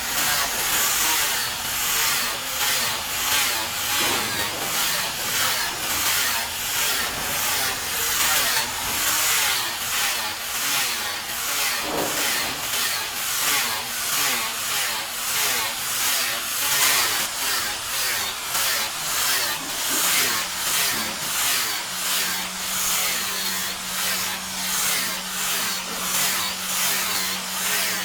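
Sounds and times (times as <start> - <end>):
hand tool rasping wood: 0.0 - 28.0.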